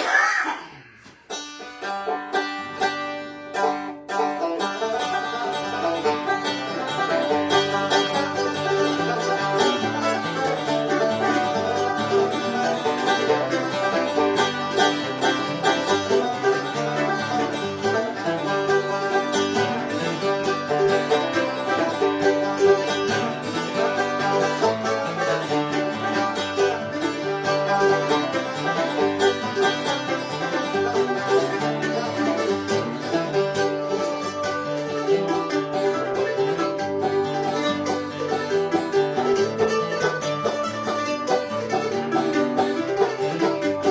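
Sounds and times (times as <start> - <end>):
banjo: 0.0 - 43.9
acoustic guitar: 1.0 - 43.9.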